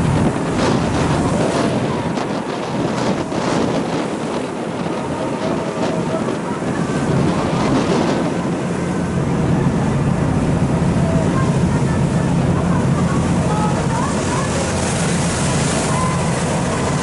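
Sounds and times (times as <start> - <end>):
boat engine humming: 0.0 - 17.0
water rushing against boat: 0.0 - 17.0
wind buffeting microphone: 0.0 - 17.0.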